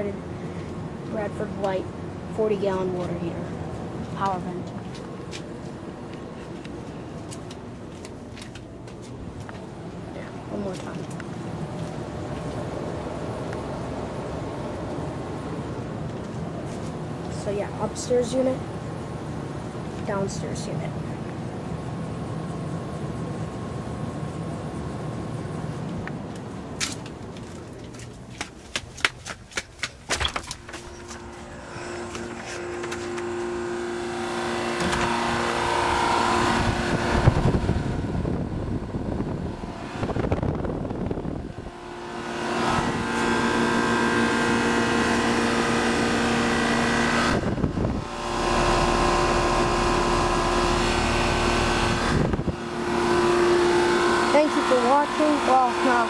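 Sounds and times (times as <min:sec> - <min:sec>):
air conditioner units humming: 0:00.0 - 0:56.0.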